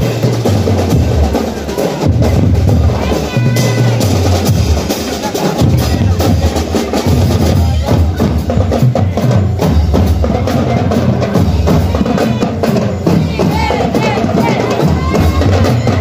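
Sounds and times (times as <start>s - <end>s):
bass and snare drums beat: 0.0s - 16.0s
marching drum and lyre band: 0.0s - 16.0s.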